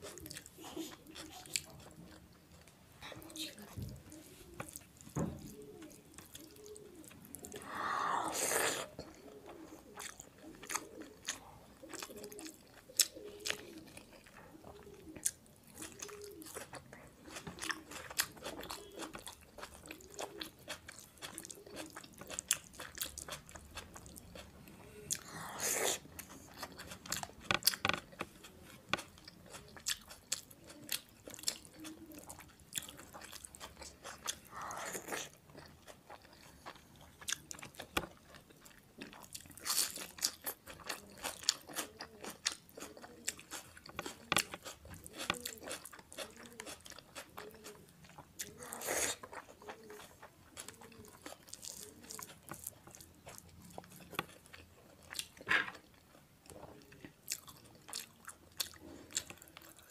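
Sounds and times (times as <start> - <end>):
person chewing with mouth clicks: 0.0 - 59.9.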